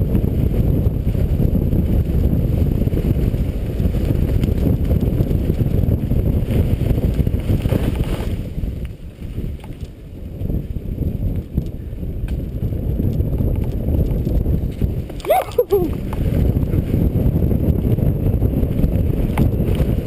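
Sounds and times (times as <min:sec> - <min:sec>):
bike rattling: 0:00.0 - 0:20.0
wind rumble on microphone: 0:00.0 - 0:20.0.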